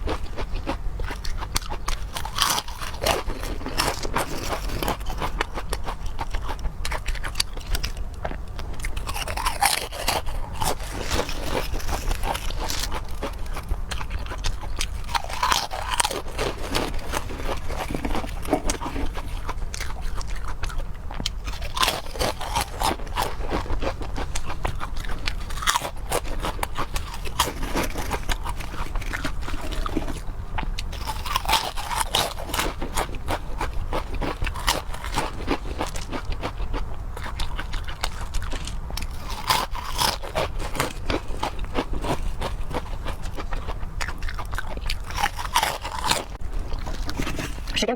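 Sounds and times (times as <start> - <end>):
crunchy chewing: 0.0 - 47.8.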